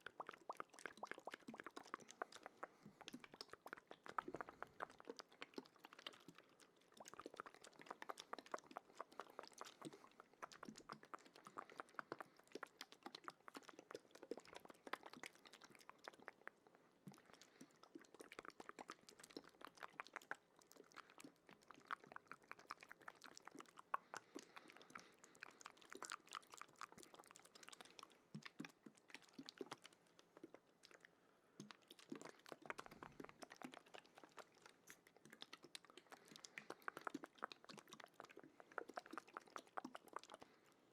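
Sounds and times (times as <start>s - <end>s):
wet mouth clicks and smacks: 0.0s - 40.8s.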